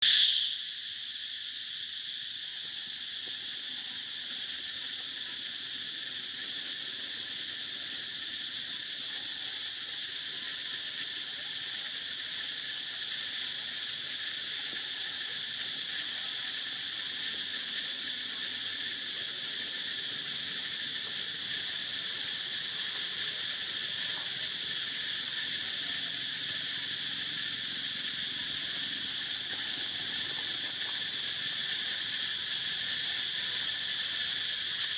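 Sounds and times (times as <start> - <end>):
insects chorus: 0.0 - 34.9.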